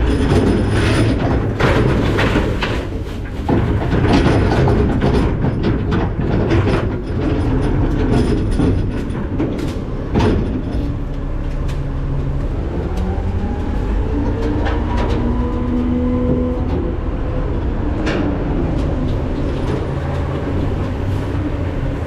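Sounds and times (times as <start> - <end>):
garbage truck hopper rattling: 0.0 - 22.0.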